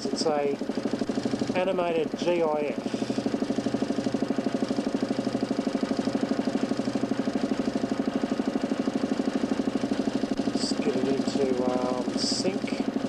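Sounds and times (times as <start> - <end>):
motor spinning disc with pulsing hum: 0.0 - 13.0.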